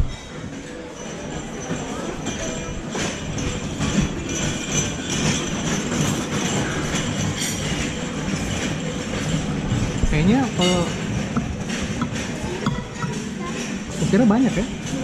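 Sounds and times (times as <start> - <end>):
cutlery clinking on plates: 0.0 - 14.2.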